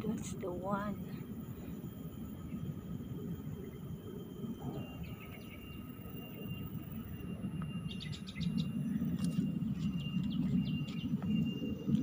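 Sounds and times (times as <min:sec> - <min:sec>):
faint steady high tone: 0:00.0 - 0:12.0
low rumbling noise: 0:00.0 - 0:12.0
wild birds chirping: 0:00.0 - 0:12.0.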